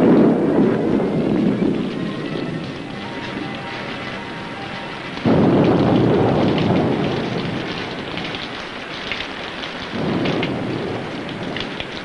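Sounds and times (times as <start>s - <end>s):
heavy rain: 0.0s - 12.0s
thunder rumbling: 0.0s - 12.0s.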